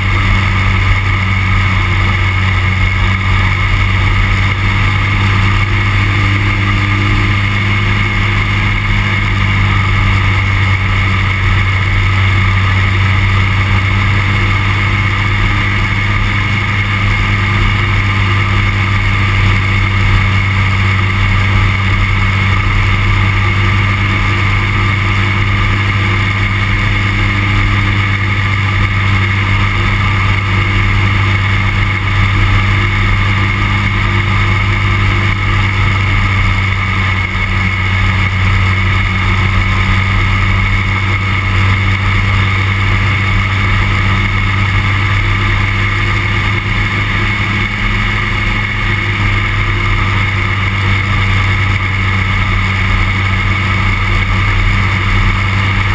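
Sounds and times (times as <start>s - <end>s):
aircraft engine drone: 0.0s - 55.9s.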